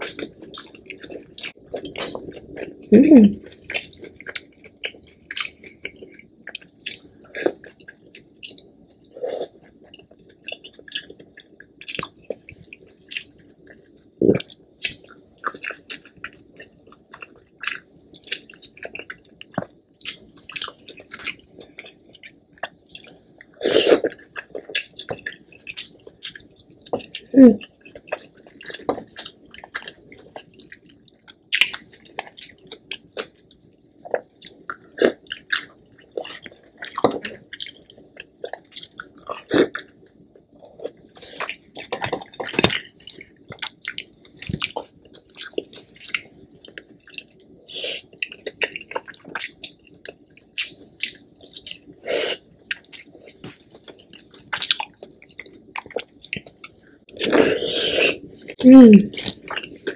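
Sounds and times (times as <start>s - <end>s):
chewing with wet squishes: 9.5s - 57.5s, 58.4s - 59.9s.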